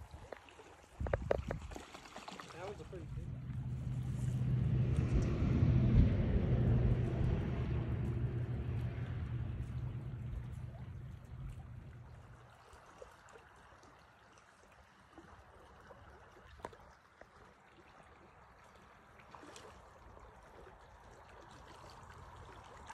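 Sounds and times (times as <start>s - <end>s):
stream trickling over cobbles: 0.0s - 5.5s, 8.0s - 22.9s.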